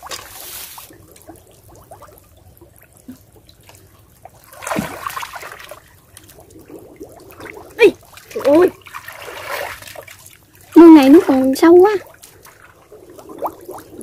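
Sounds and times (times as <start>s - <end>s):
muddy water splashing: 0.0s - 14.0s.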